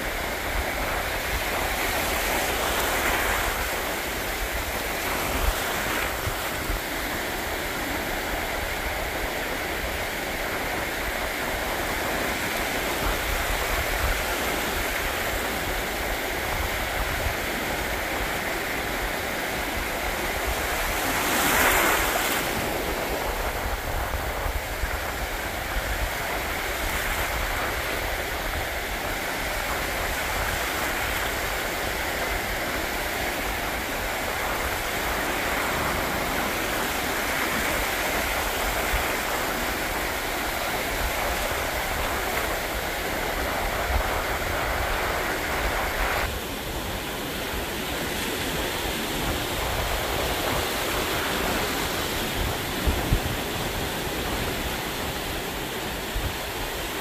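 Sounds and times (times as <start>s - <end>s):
ocean surf washing up beach: 0.0s - 57.0s
wind buffeting microphone: 0.0s - 57.0s.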